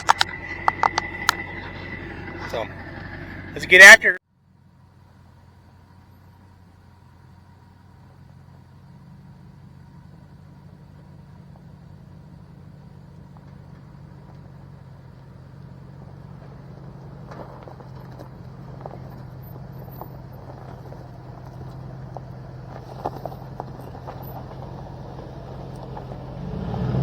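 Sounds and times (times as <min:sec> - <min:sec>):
gravel clicking under tyres: 0:00.0 - 0:27.0
pickup truck engine running: 0:00.0 - 0:27.0.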